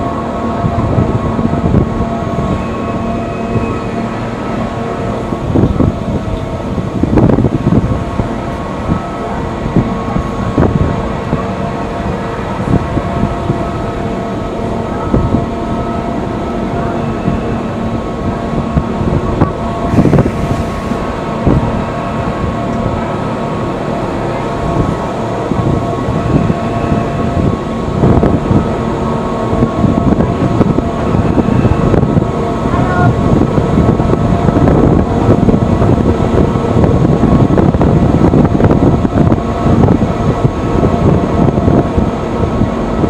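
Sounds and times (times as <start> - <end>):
constant whine: 0.0 - 43.0
train rumble: 0.0 - 43.0.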